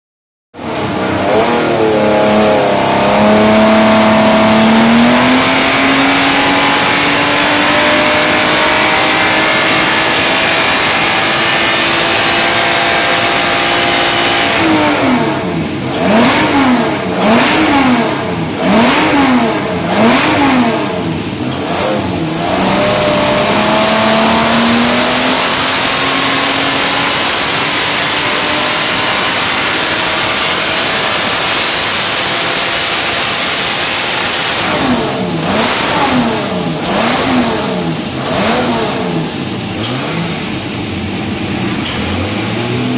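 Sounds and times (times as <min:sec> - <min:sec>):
race engine revving on dyno: 0:00.6 - 0:42.9.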